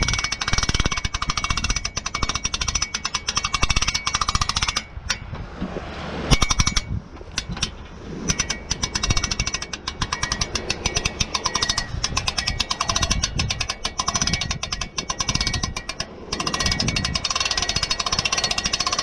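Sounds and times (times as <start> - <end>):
winch ratchet clicking: 0.0 - 5.4, 6.3 - 19.0.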